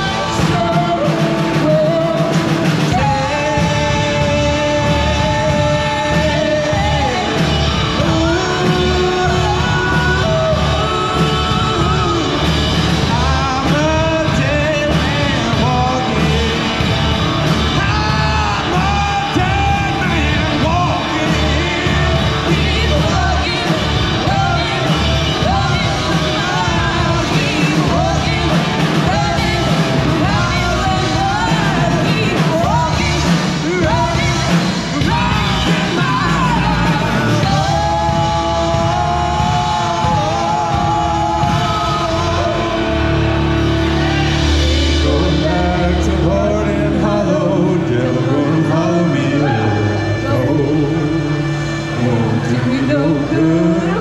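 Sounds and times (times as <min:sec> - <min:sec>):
live rock band playing: 0:00.0 - 0:54.0
man and woman singing: 0:00.0 - 0:54.0.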